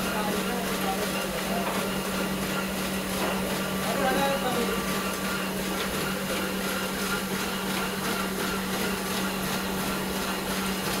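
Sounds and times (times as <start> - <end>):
paper feed clatter: 0.0 - 11.0
printing press motor hum: 0.0 - 11.0.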